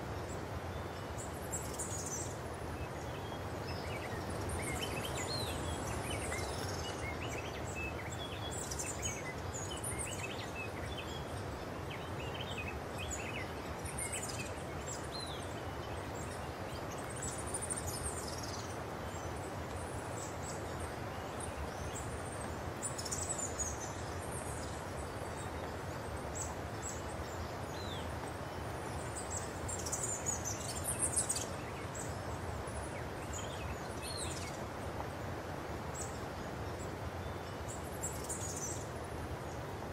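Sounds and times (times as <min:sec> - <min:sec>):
birds chirping and twittering: 0:00.0 - 0:39.9
steady background hiss: 0:00.0 - 0:39.9.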